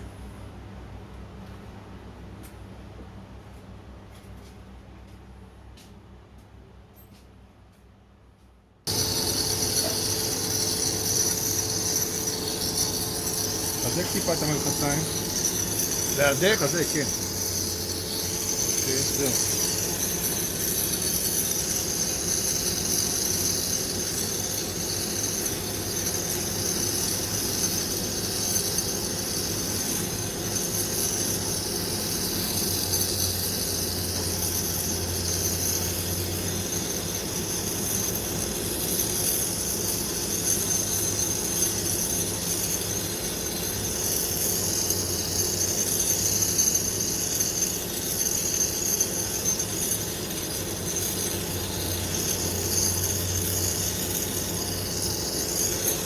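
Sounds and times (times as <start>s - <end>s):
gas burner hissing and roaring: 8.9s - 56.0s.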